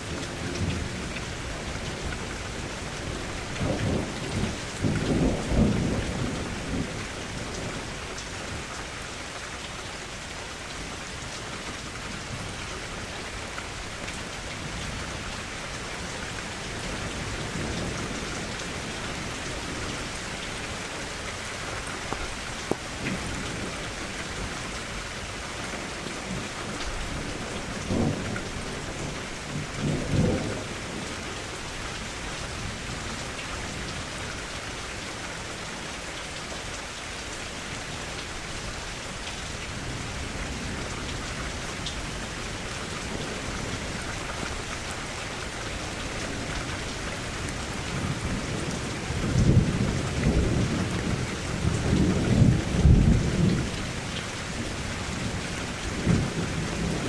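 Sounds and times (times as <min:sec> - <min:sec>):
rain against a window: 0:00.0 - 0:57.0.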